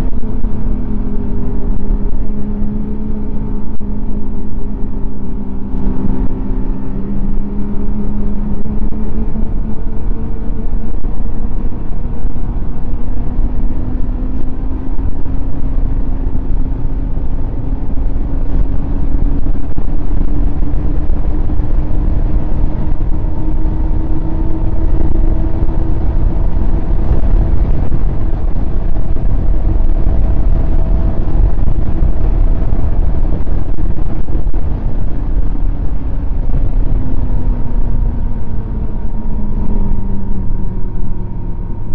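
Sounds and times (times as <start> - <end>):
heavy low rumble: 0.0 - 41.9.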